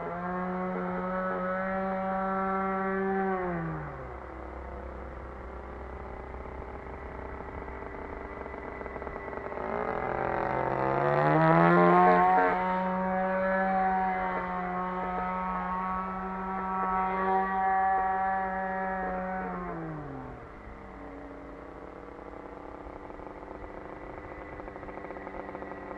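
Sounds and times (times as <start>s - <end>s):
model airplane two-stroke engine: 0.0s - 25.9s.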